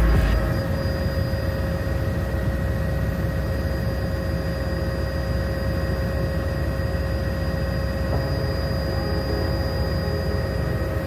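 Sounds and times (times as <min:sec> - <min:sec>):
constant engine whine: 0:00.0 - 0:11.0
helicopter engine and rotor drone: 0:00.0 - 0:11.0.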